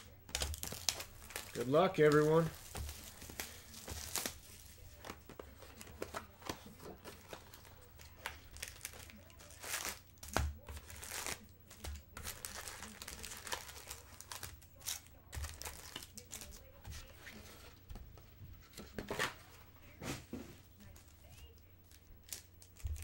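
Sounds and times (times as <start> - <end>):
plastic and foil packs crinkling: 0.0 - 17.8, 20.7 - 23.0.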